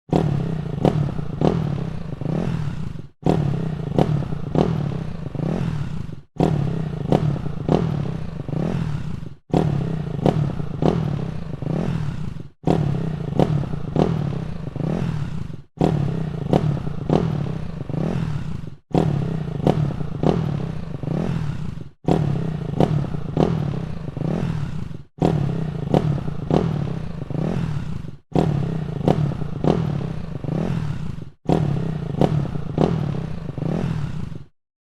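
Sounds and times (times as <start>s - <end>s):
motorcycle engine revving: 0.1s - 34.6s.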